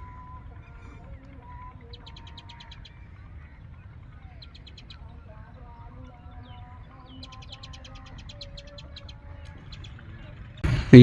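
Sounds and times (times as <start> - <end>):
bird trilling: 0.0 - 10.7
low rumble: 0.0 - 11.0.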